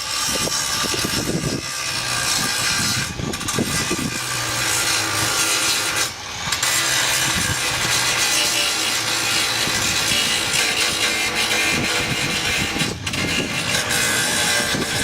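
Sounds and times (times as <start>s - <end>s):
power tool grinding sheet metal: 0.0s - 15.0s.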